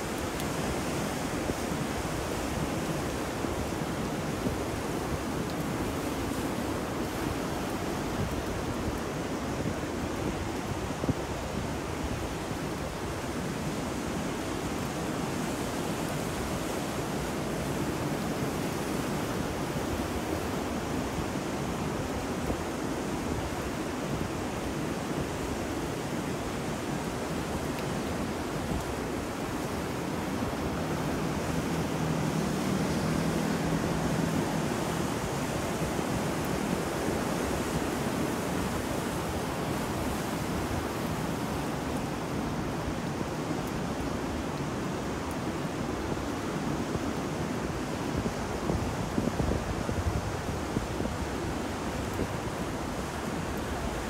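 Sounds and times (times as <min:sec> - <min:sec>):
ocean surf: 0:00.0 - 0:54.0
rain: 0:00.0 - 0:54.0
wind: 0:00.0 - 0:54.0.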